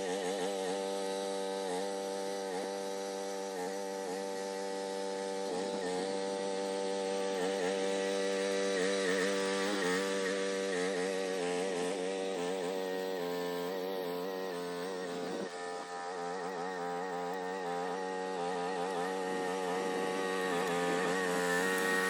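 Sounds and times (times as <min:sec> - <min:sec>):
small excavator engine running: 0:00.0 - 0:22.0.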